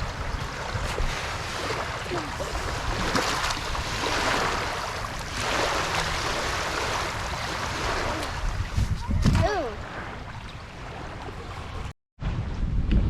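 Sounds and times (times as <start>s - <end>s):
small waves washing onto sand: 0.0s - 11.9s
wind rumble on microphone: 0.0s - 13.0s.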